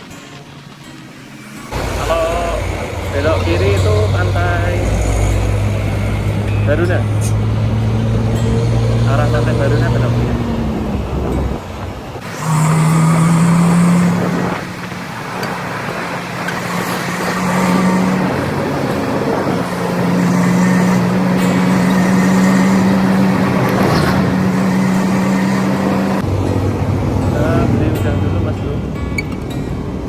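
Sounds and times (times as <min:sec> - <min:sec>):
vehicle engine humming: 0:00.0 - 0:30.0
wind and road noise: 0:00.0 - 0:30.0.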